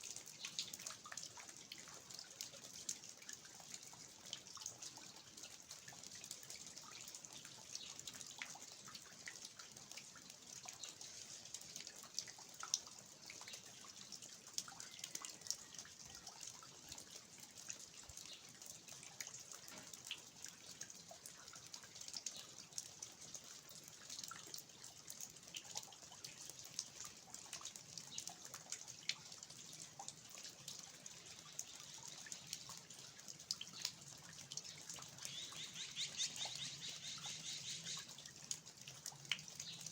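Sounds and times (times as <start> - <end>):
faint rain hiss: 0.0 - 39.9
water dripping from eaves: 0.0 - 39.9.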